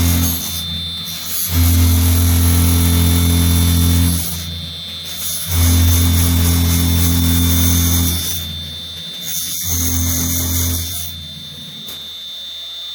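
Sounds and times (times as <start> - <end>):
drill boring into wood: 0.0 - 11.9.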